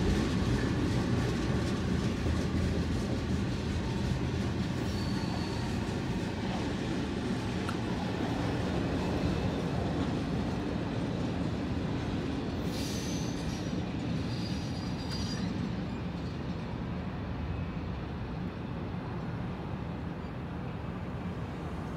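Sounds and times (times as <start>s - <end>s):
freight train cars rumbling: 0.0s - 21.9s
train wheels squealing: 0.0s - 21.9s.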